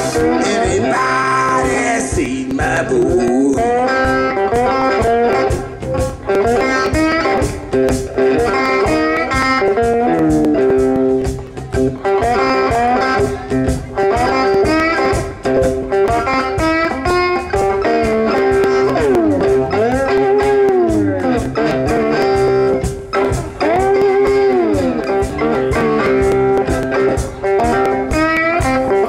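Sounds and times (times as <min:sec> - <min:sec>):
electric blues guitar lead: 0:00.0 - 0:29.0
steady beat: 0:00.0 - 0:29.0.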